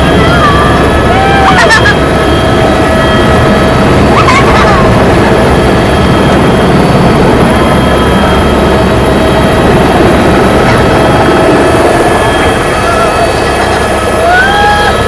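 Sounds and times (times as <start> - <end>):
helicopter engine and rotors: 0.0 - 15.0.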